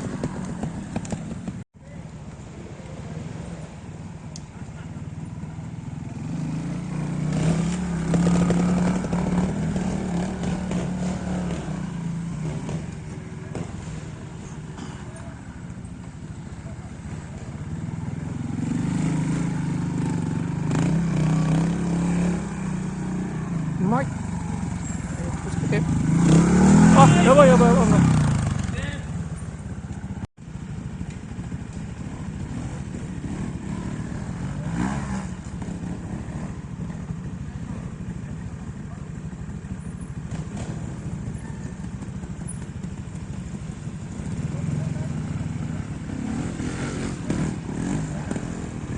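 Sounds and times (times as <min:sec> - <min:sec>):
motorcycle engine under throttle: 0:04.5 - 0:48.9.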